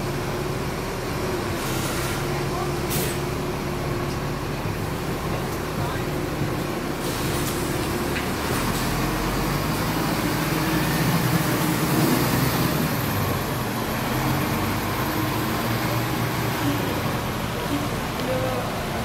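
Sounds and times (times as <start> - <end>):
bus diesel engine driving past: 0.0 - 19.0.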